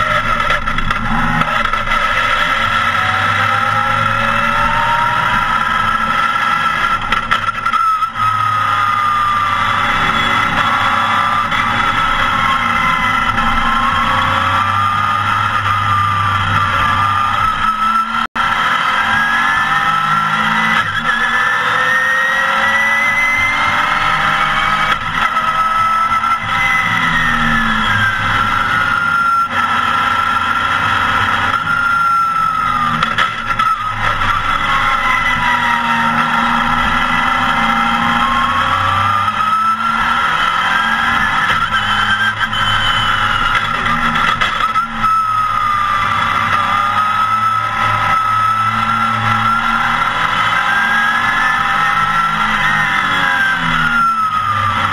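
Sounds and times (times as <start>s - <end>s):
race car engine pulling hard: 0.0s - 54.9s.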